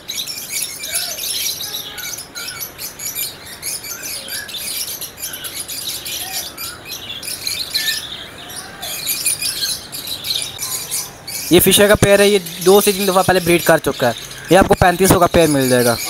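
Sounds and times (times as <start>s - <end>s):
lovebirds chattering: 0.0s - 16.0s.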